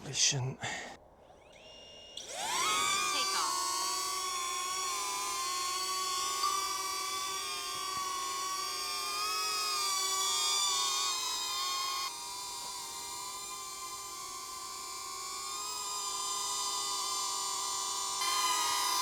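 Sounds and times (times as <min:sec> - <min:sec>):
drone propellers whining: 0:01.2 - 0:19.0.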